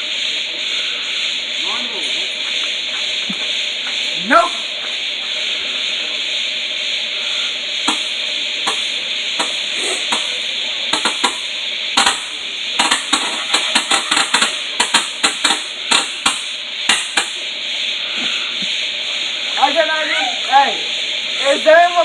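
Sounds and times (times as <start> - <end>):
fireworks crackling and popping: 0.0 - 22.0
fireworks hissing: 0.0 - 22.0.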